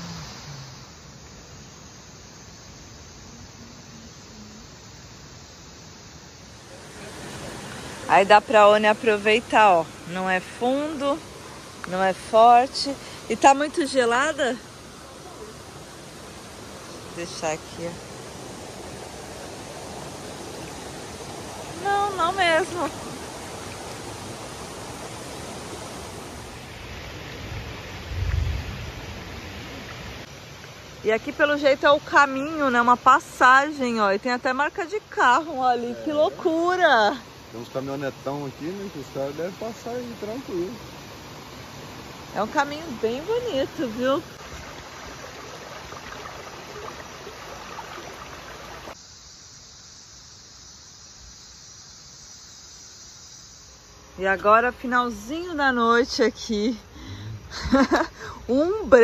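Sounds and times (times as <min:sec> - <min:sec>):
river water flowing: 0:00.0 - 0:49.0
crickets and night insects: 0:00.0 - 0:59.0.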